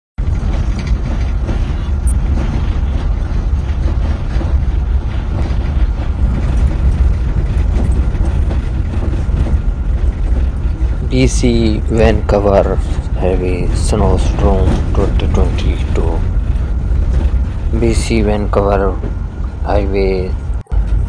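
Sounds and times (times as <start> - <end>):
low rumble of traffic: 0.2 - 21.0.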